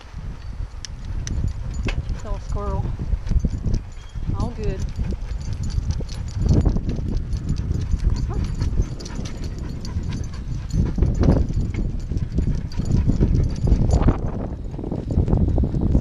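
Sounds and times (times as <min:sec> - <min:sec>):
dog panting hard: 0:01.0 - 0:14.8.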